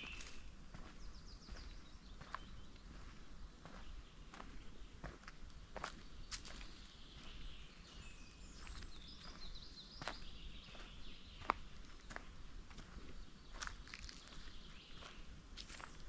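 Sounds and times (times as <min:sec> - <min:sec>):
songbird twittering: 0:00.0 - 0:05.2, 0:05.8 - 0:16.0
faint woodland ambience: 0:00.0 - 0:16.0
footsteps on forest trail: 0:00.0 - 0:16.0.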